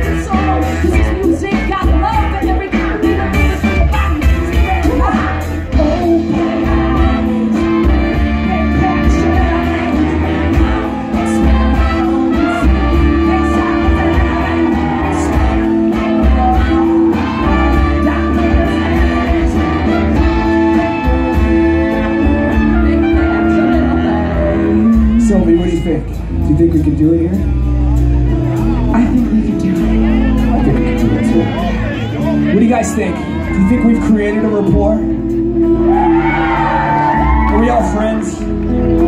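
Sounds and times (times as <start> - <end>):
brass band playing: 0.0 - 39.0
guitar: 0.0 - 39.0
steady drum beat: 0.0 - 39.0.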